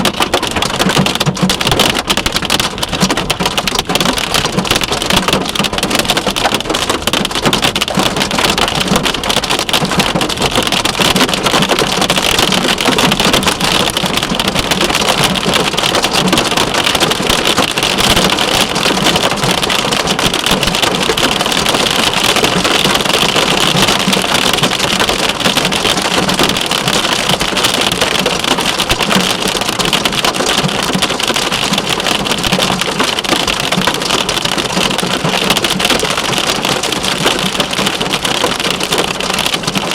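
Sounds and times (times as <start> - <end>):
rain and hail pelting a car: 0.0 - 39.9.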